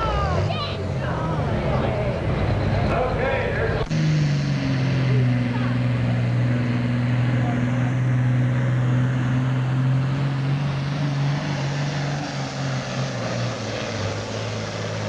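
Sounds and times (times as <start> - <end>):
diesel tractor engine running hard: 0.0 - 15.0.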